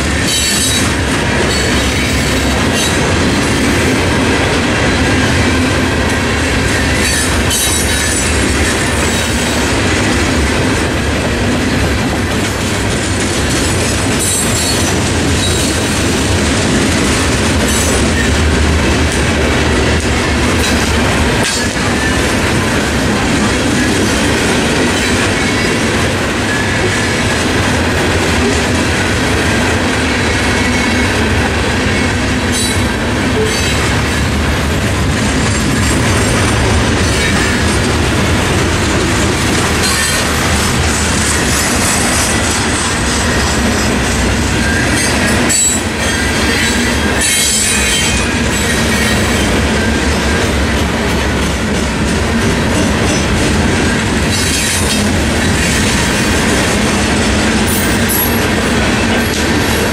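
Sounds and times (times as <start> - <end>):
freight train rumbling past: 0.0 - 59.9
sharp clanks from train cars: 0.0 - 59.9
steel wheels clacking over rail joints: 0.0 - 59.9.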